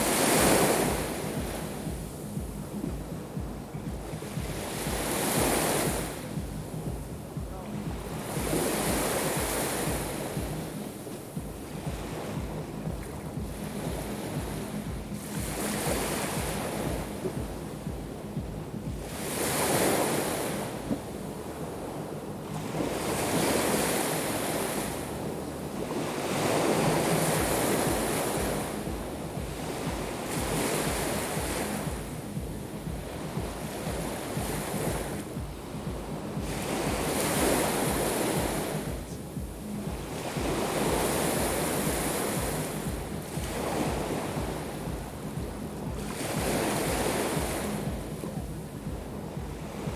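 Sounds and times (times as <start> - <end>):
waves breaking on shore: 0.0 - 49.9
wind rumble on microphone: 0.0 - 49.9.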